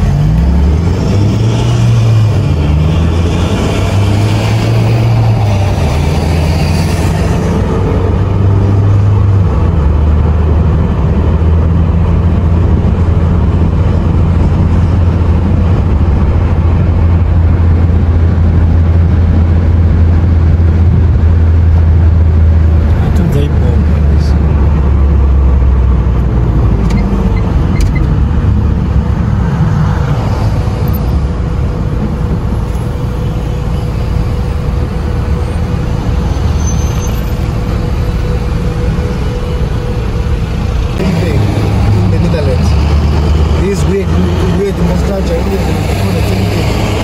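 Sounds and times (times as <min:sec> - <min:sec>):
car engine driving: 0:00.0 - 0:47.0
road noise: 0:00.0 - 0:47.0.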